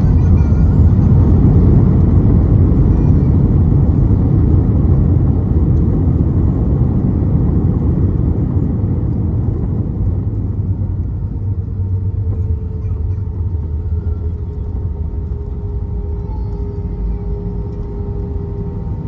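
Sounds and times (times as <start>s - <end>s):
airliner roar on runway: 0.0s - 19.0s.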